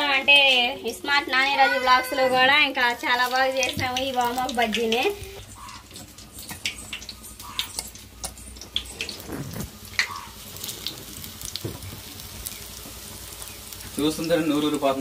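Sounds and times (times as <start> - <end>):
batter deep-frying in oil: 0.0 - 15.0.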